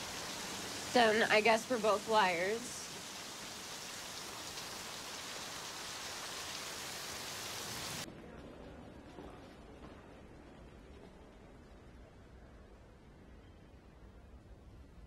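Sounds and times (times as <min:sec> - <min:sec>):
steady rain falling: 0:00.0 - 0:12.8.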